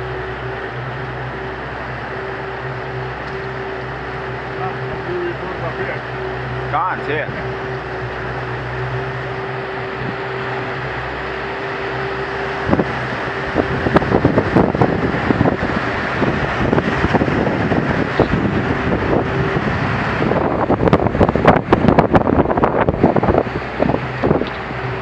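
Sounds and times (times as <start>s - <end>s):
engine humming: 0.0s - 25.0s
wind noise on microphone: 0.0s - 25.0s.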